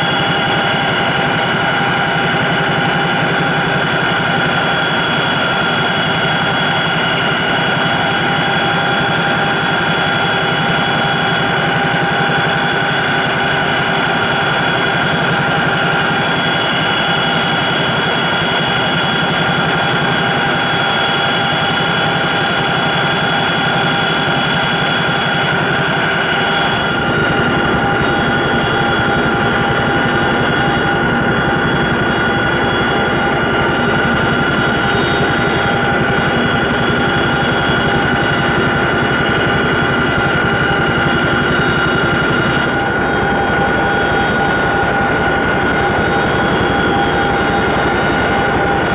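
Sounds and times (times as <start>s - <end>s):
helicopter cabin whine and drone: 0.0s - 48.9s.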